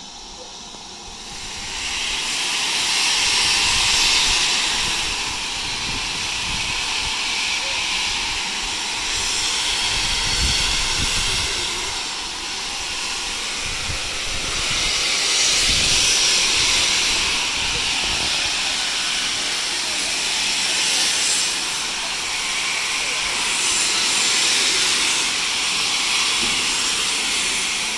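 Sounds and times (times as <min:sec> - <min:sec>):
steam locomotive hissing steam: 0:00.0 - 0:27.9.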